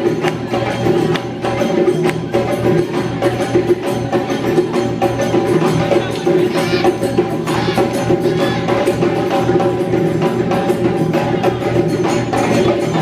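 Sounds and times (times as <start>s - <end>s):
drums in fast rhythm: 0.0s - 13.0s.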